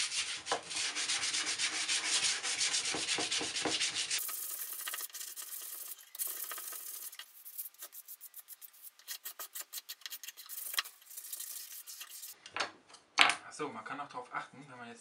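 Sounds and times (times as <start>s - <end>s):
sandpaper rubbing on wood: 0.0s - 12.4s.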